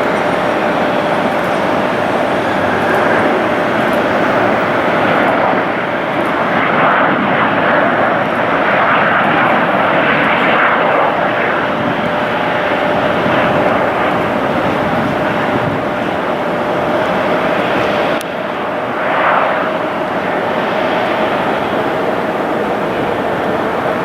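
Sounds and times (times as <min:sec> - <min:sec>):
jet engines roaring: 0:00.0 - 0:24.0
thin steady whine: 0:00.0 - 0:24.0.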